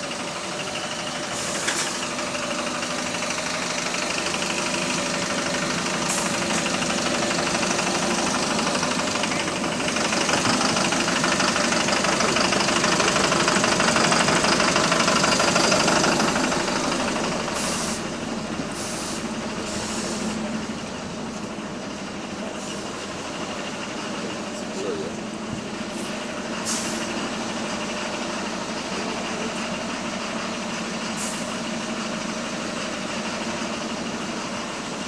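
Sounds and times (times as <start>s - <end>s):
diesel engine knocking: 0.0s - 35.0s.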